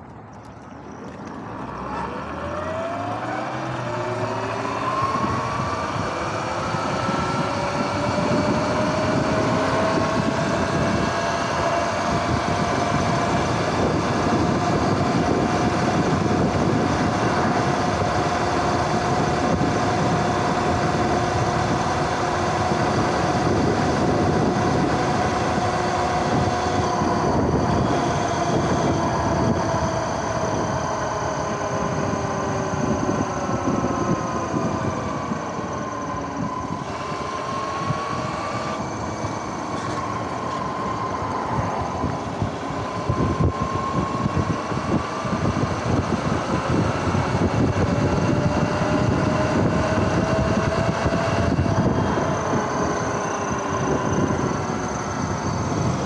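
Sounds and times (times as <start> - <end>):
wind and tyre noise: 0.0 - 56.0
electric motor whine: 0.8 - 56.0.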